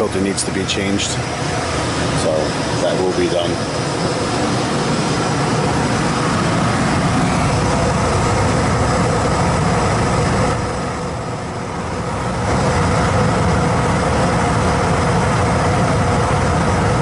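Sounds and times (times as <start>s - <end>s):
blower air rushing: 0.0s - 17.0s
furnace humming: 0.0s - 17.0s.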